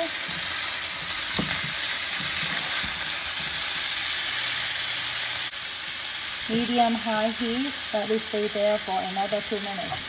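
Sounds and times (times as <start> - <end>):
chicken wings sizzling in oil: 0.0 - 10.0.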